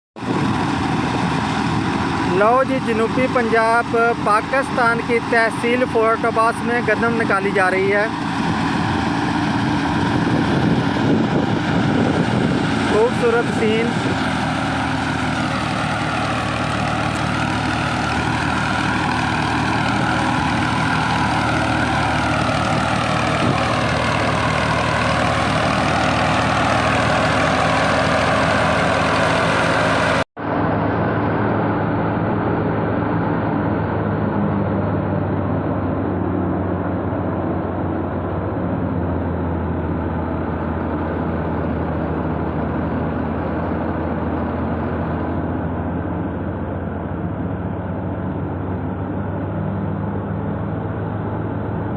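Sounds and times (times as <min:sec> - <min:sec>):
thresher engine drone: 0:00.2 - 0:51.9.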